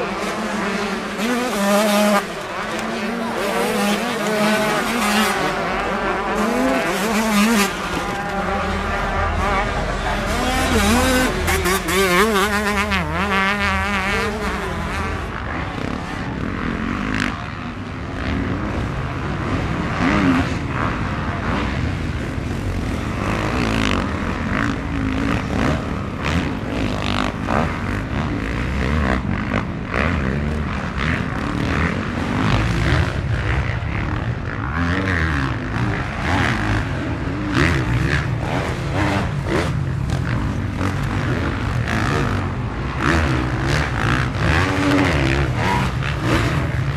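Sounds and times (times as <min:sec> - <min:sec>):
motocross bike engines revving: 0:00.0 - 0:46.9.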